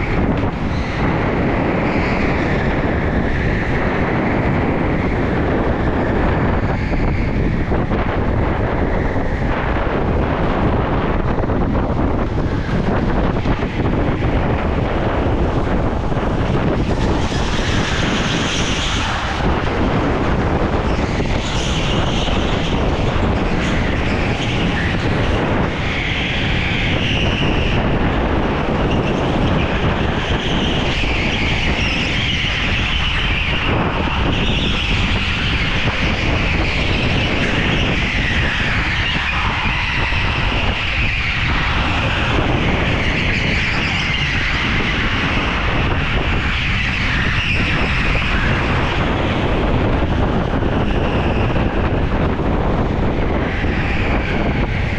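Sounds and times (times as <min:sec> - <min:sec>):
go-kart running at speed: 0:00.0 - 0:54.9
wind on microphone: 0:00.0 - 0:54.9.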